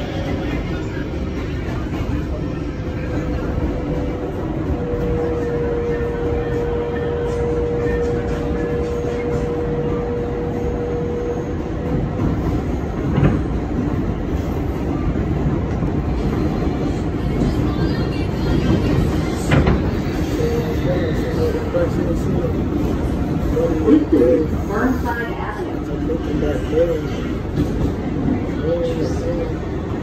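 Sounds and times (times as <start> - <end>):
subway wheels rumbling on track: 0.0 - 30.0.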